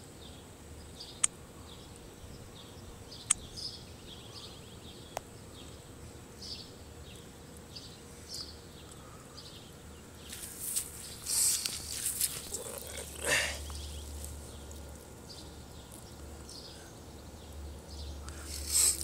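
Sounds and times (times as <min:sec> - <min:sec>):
low steady background noise: 0:00.0 - 0:19.0.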